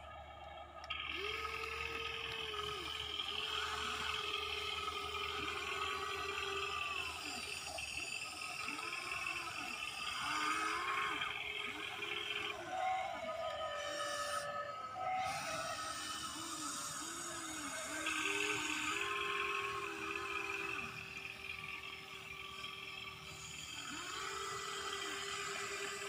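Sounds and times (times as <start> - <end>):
electric gear motors whining: 0.0 - 26.0.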